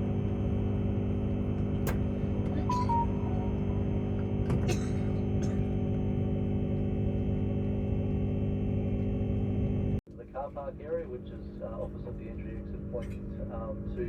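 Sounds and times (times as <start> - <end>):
train carriage hum: 0.0 - 14.0.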